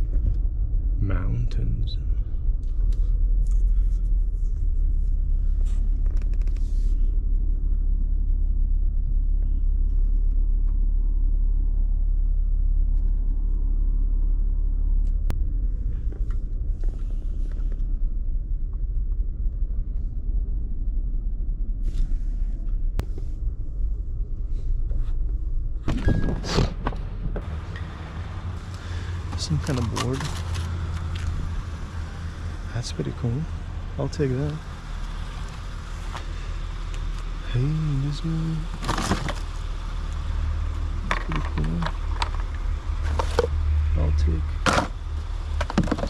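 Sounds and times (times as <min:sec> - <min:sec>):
car road rumble: 0:00.0 - 0:46.0.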